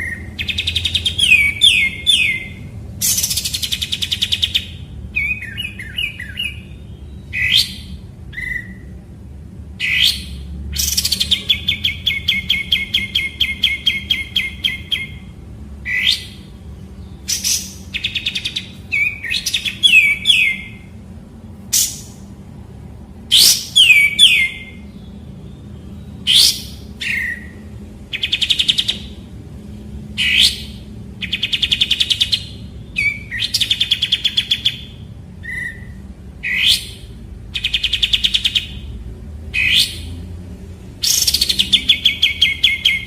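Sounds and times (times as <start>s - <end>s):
bulbul singing: 0.0s - 43.0s.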